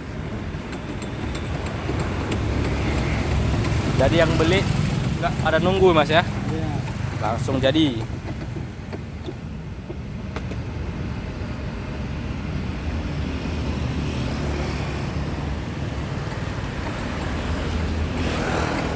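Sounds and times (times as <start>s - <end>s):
low rumble of road traffic: 0.0s - 18.9s.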